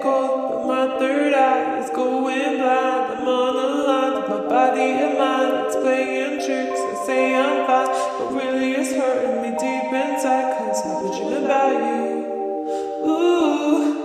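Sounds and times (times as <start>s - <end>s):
a cappella singing voices: 0.0s - 14.0s.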